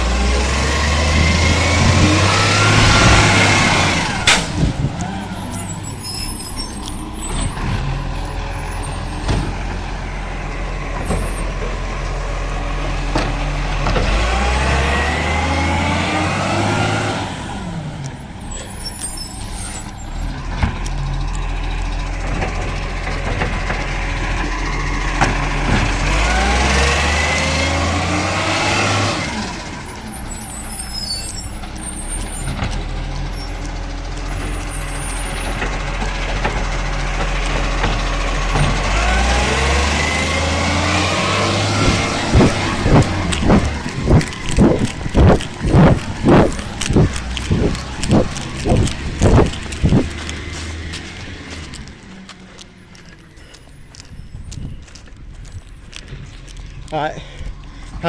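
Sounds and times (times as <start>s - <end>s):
truck engine revving: 0.0s - 54.2s.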